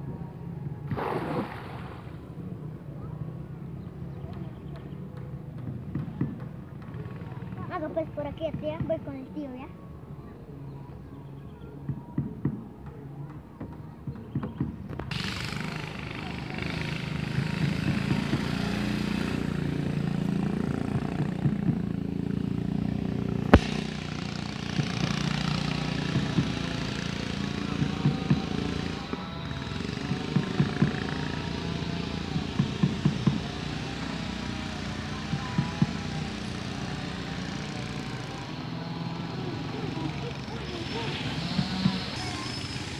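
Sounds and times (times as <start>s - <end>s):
boat motor humming: 0.0s - 11.1s, 14.7s - 42.9s.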